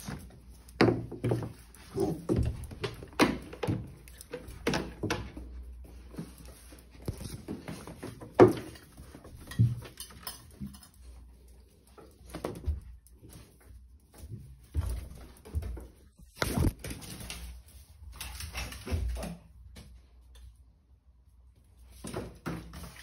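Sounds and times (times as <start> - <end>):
puppies scuffling on tiled floor: 0.0 - 20.6, 21.5 - 23.0.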